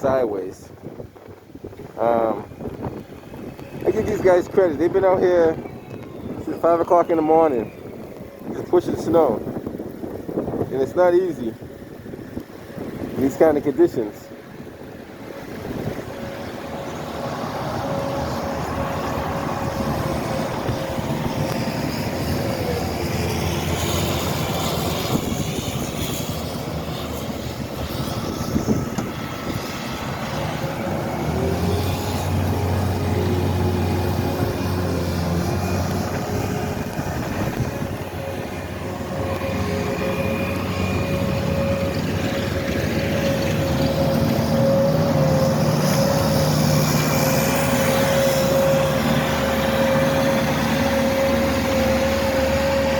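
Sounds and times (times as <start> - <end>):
diesel engines working under load: 0.0 - 52.9.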